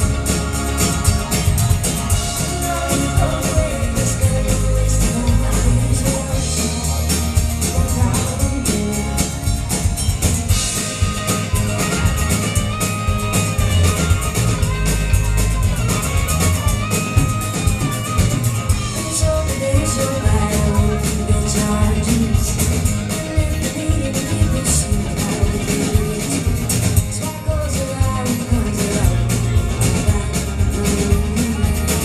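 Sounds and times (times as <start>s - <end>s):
harmonica lead line: 0.0s - 32.0s
live band playing instrumental: 0.0s - 32.0s.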